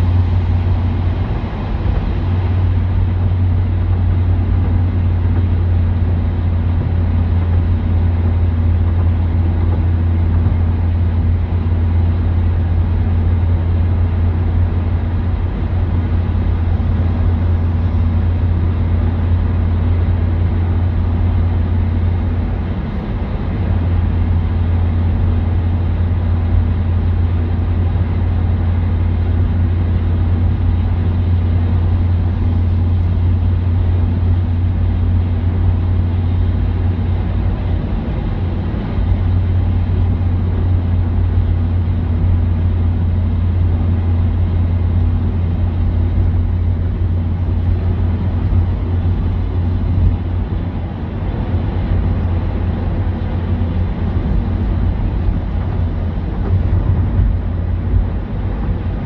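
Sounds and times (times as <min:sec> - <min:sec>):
vehicle road and engine drone: 0:00.0 - 0:59.0.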